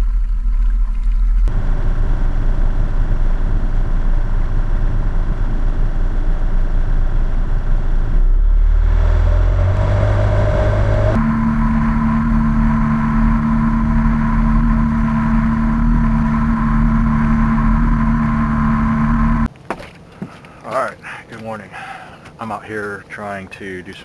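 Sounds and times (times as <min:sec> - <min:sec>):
outboard motor running: 0:00.0 - 0:19.5.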